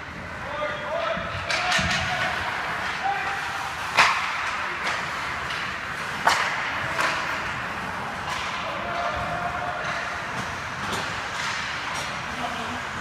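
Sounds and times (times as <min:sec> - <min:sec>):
hockey sticks hitting puck: 0:00.0 - 0:13.0
skating and rink noise: 0:00.0 - 0:13.0.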